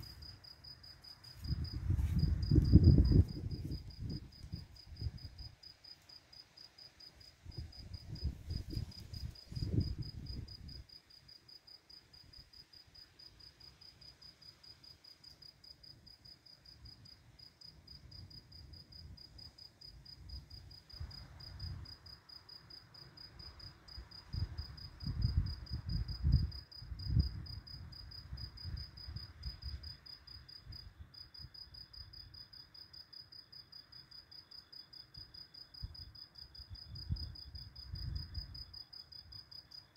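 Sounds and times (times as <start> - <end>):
crickets chirping: 0.0 - 39.9
lower-pitched cricket chirping: 0.0 - 39.9.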